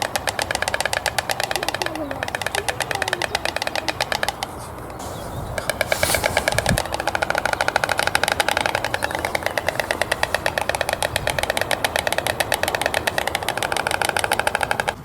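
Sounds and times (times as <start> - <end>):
stork clattering its bill: 0.0 - 15.0.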